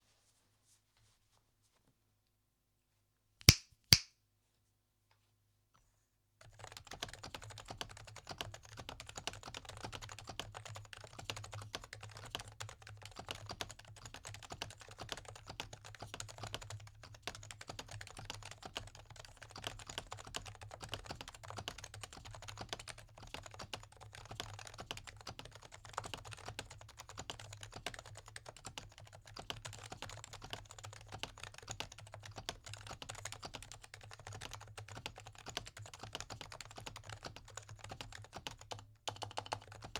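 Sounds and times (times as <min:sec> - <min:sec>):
fast typing on keyboard: 0:06.4 - 0:39.9.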